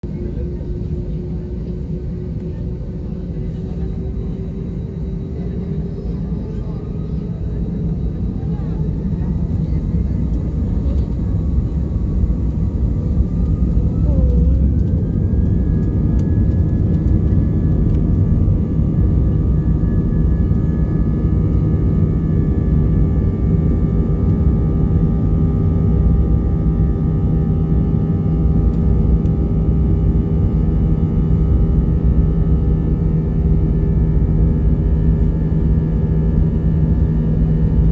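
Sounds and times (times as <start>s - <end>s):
jet engines whining and rumbling: 0.0s - 37.9s.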